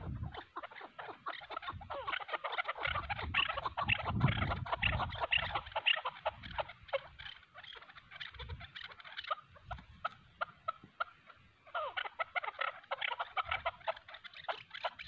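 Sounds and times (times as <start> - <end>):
partridges calling: 0.0 - 15.0.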